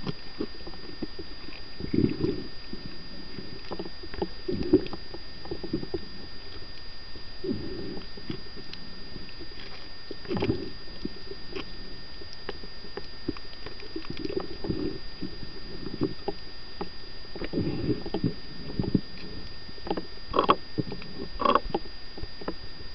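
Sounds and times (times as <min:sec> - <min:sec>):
regulator exhaust bubbling underwater: 0:00.0 - 0:22.9
thin steady high tone: 0:00.0 - 0:22.9.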